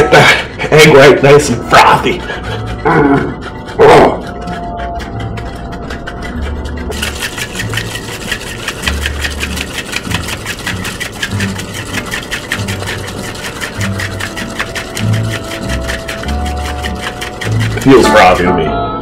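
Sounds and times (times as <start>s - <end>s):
cocktail shaker rattling: 0.0s - 18.6s.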